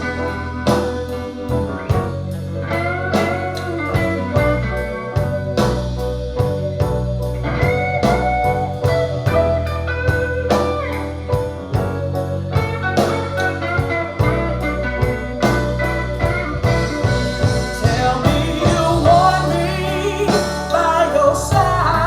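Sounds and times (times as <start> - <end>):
lead guitar with bending notes: 0.0 - 22.0
steady drum beat: 0.0 - 22.0.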